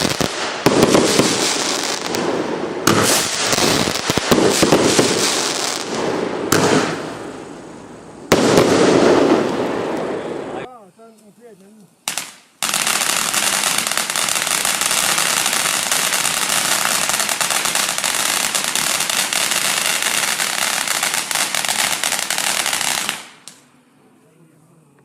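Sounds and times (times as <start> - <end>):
firework barrage crackling: 0.0 - 10.7, 12.0 - 23.6.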